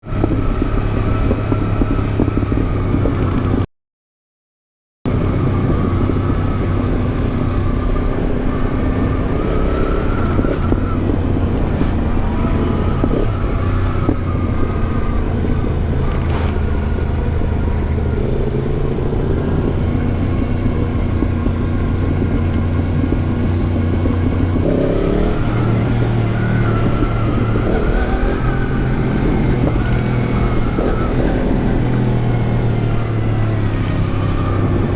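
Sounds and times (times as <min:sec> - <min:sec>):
motorcycle engine while riding: 0:00.0 - 0:03.7, 0:05.1 - 0:34.9.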